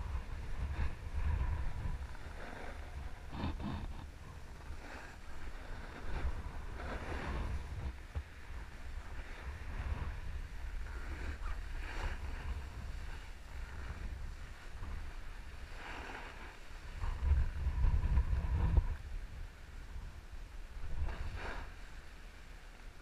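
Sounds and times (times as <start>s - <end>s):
edges scraping across snow: 0.0s - 19.0s, 20.9s - 22.4s
wind buffeting microphone: 0.0s - 22.3s.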